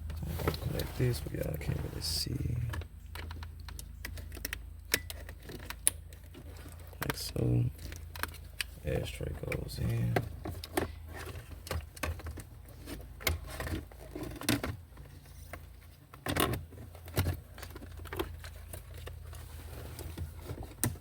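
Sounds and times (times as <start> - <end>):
plastic parts clicking and knocking: 2.6 - 19.4.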